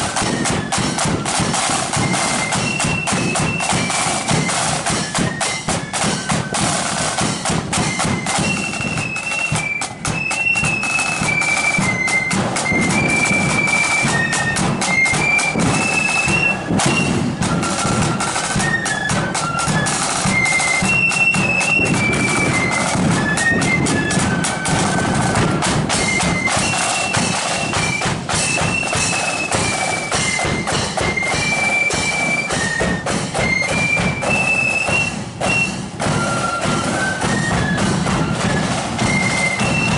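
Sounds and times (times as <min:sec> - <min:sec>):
flute melody: 0:00.0 - 0:39.9
side drums and bass drum: 0:00.0 - 0:39.9.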